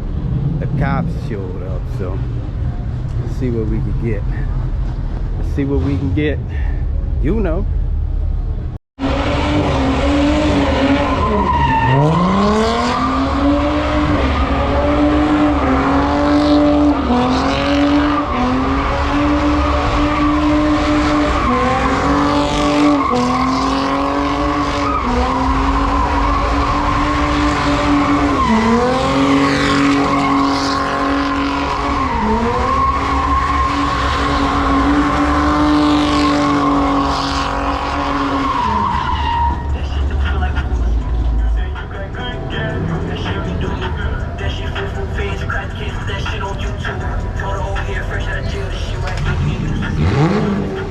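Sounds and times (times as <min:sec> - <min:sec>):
car engine revving high: 0:09.0 - 0:50.9
tires squealing: 0:09.0 - 0:50.9.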